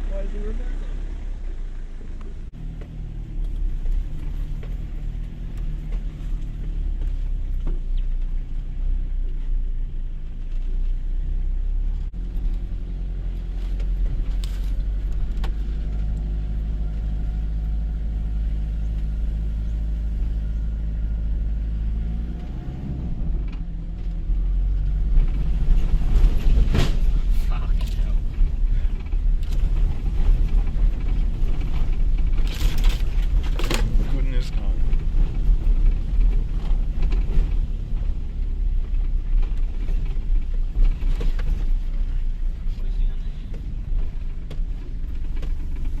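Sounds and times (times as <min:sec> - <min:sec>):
engine running at low revs: 0:00.0 - 0:46.0.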